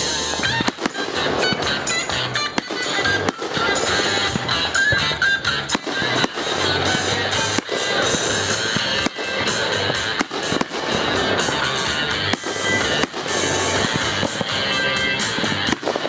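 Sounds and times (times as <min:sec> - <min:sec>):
background music: 0:00.0 - 0:16.0
fireworks bursting and crackling: 0:00.0 - 0:16.0.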